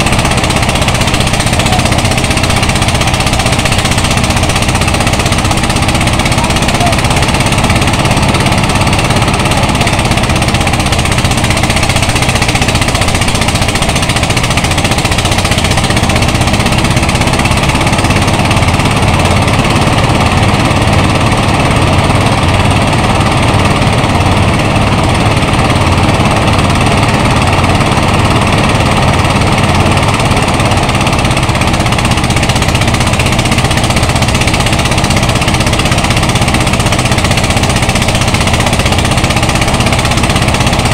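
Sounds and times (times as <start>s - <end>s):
rice thresher running: 0.0s - 40.9s.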